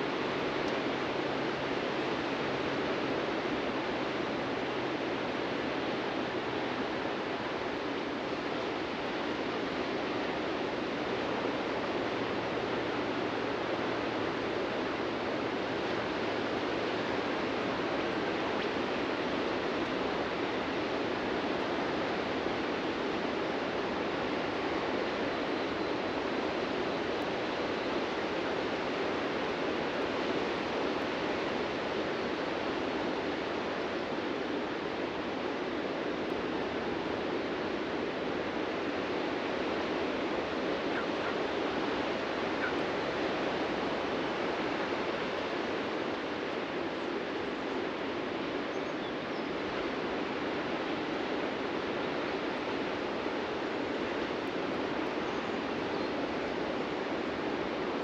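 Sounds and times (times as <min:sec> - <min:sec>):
ocean waves washing on beach: 0:00.0 - 0:58.0.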